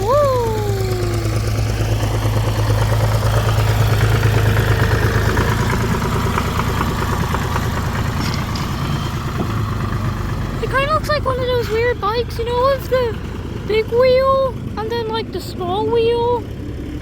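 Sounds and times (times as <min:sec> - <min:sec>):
tractor engine humming: 0:00.0 - 0:17.0.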